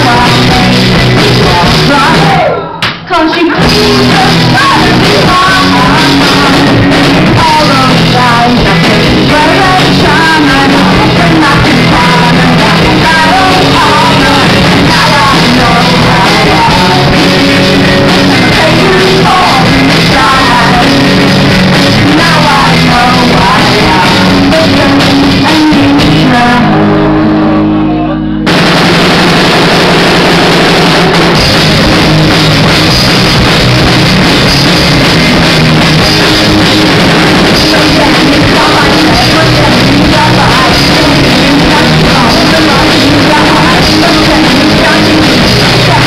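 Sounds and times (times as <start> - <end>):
drum kit: 0.0 - 27.6, 28.4 - 46.0
bass guitar: 0.0 - 46.0
electric guitar: 0.0 - 46.0.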